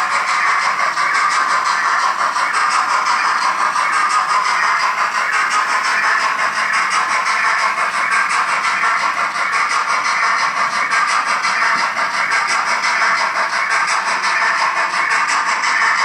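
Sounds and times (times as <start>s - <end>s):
model steam locomotive chuffing: 0.0s - 16.0s
model train running on track: 0.0s - 16.0s
steady steam hiss: 0.0s - 16.0s.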